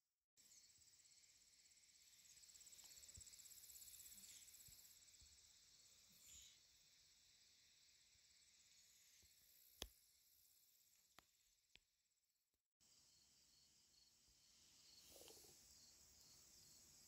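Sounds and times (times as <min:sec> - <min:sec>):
pulsing high-pitched hiss: 0:00.4 - 0:11.6, 0:12.8 - 0:17.0.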